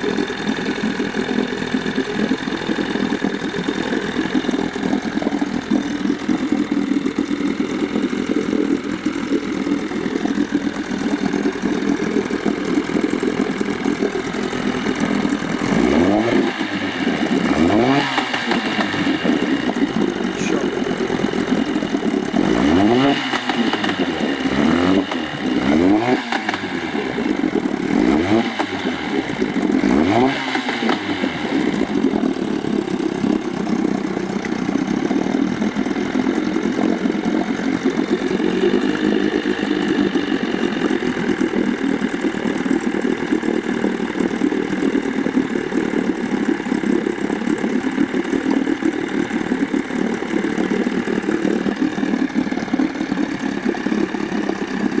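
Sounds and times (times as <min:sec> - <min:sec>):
outboard motor revving and running: 0:00.0 - 0:55.0.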